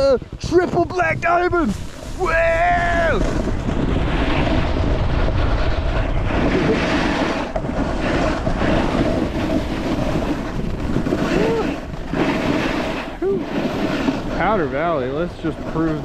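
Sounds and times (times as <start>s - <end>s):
snowboard sliding over snow: 0.0s - 16.0s
wind buffeting microphone: 0.0s - 16.0s.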